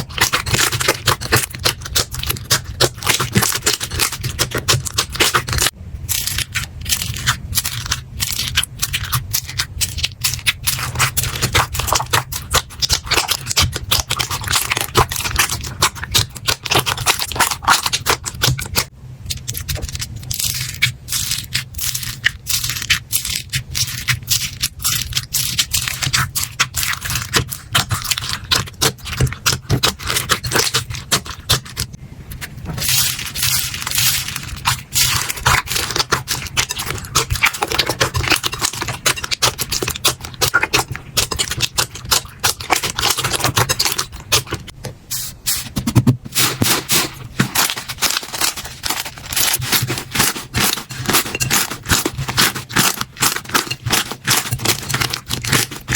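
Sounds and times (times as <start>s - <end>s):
slime squelching clicks and crackles: 0.0s - 44.8s, 46.7s - 55.9s.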